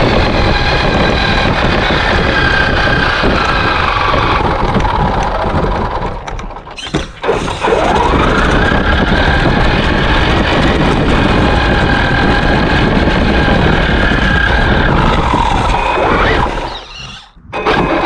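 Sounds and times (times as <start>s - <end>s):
rushing snow and wind: 0.0s - 6.5s, 7.6s - 18.0s
electric motor whining: 0.0s - 18.0s.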